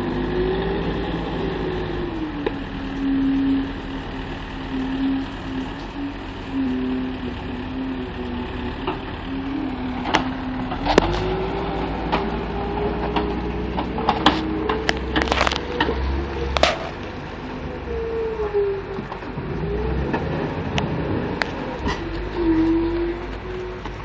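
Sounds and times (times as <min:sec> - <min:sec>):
diesel engine revving: 0:00.0 - 0:24.0
loader clanking and knocking: 0:01.6 - 0:24.0.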